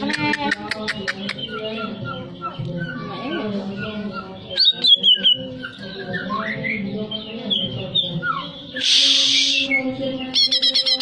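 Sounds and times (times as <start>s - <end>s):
bird song with whistled notes: 0.9s - 11.0s.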